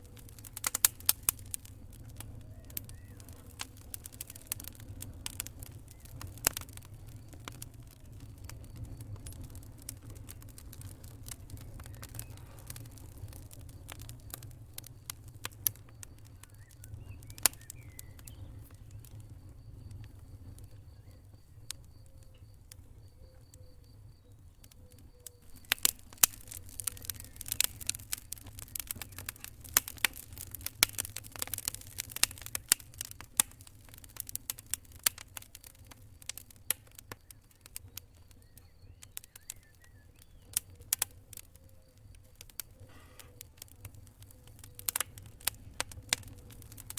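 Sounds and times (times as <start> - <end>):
low rumble of flames: 0.0 - 46.9
sharp pops of fire: 0.0 - 46.9
wood fire crackling: 0.0 - 46.9.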